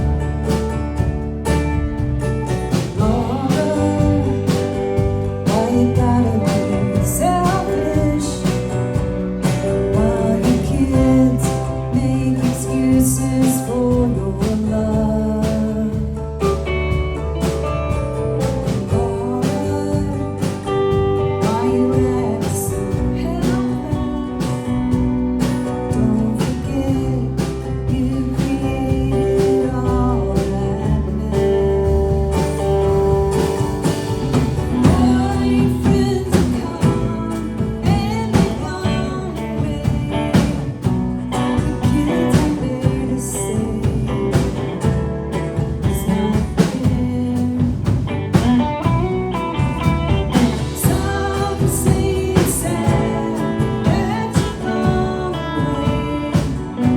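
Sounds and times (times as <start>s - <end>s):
band playing country-blues song: 0.0s - 56.9s.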